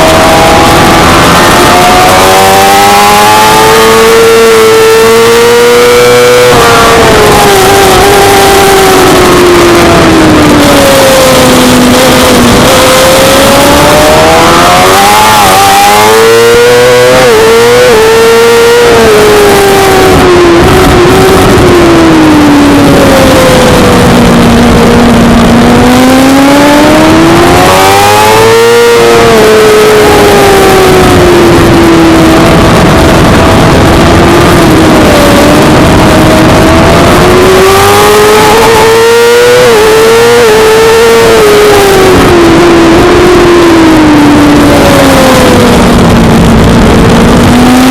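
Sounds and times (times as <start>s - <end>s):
motorcycle engine at racing revs: 0.0s - 47.9s
steady rush of noise: 0.0s - 47.9s.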